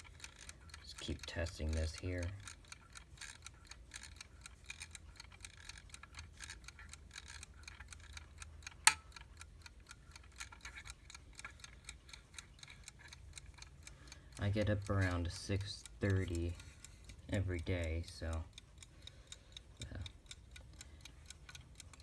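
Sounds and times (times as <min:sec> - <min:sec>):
alarm clock ticking rapidly: 0:00.0 - 0:22.0.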